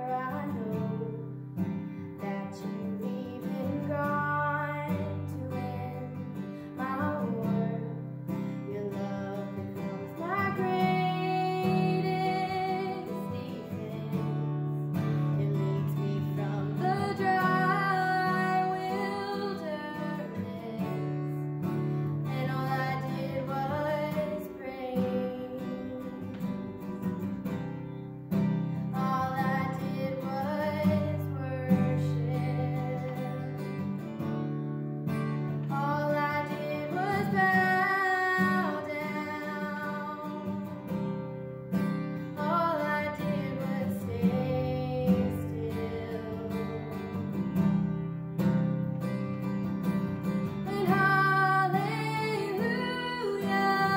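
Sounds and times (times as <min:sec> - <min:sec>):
woman singing: 0:00.0 - 0:34.3, 0:35.2 - 0:48.0, 0:49.2 - 0:53.9
acoustic guitar: 0:00.0 - 0:53.9.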